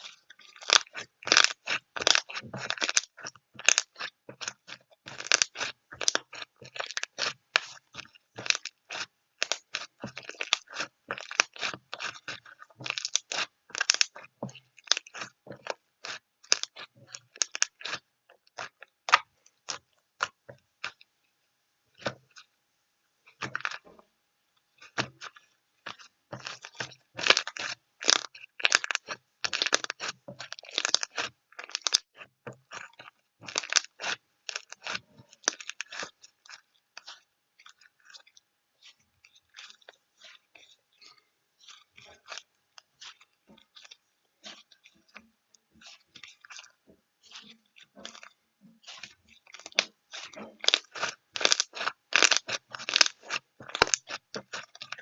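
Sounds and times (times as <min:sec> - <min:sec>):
crisp crunches: 0:00.0 - 0:21.0, 0:24.8 - 0:45.2, 0:45.8 - 0:55.0.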